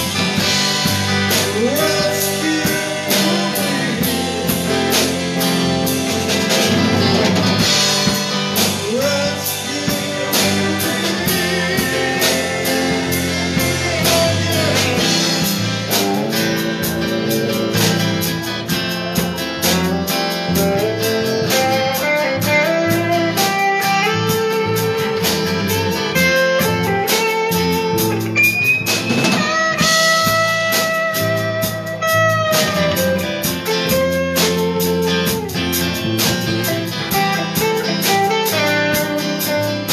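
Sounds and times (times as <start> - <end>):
electric guitar lead line: 0.0 - 39.9
live blues band: 0.0 - 39.9.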